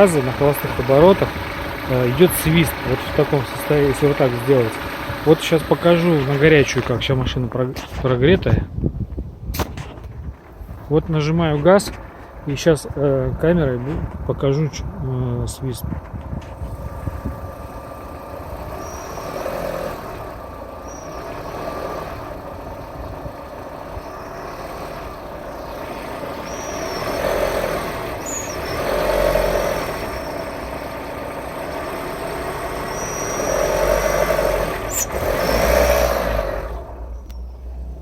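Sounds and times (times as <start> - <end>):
car engine revving: 0.0 - 8.5, 9.5 - 38.0.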